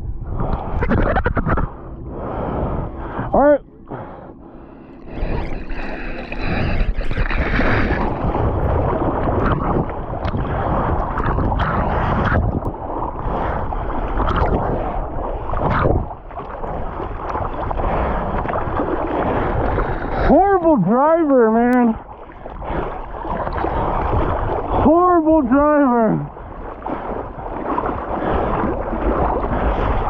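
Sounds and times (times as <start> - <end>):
wind buffeting microphone: 0.0 - 30.0
rushing splashing water: 5.2 - 21.2, 21.8 - 30.0.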